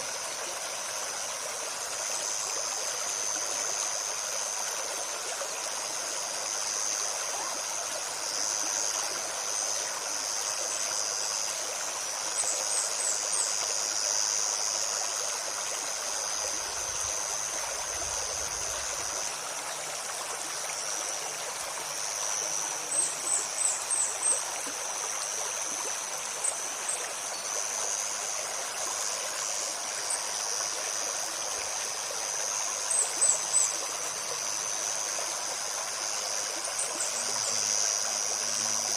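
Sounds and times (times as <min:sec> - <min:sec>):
high-pitched insect drone: 0:00.0 - 0:38.9
stream babbling: 0:00.0 - 0:38.9.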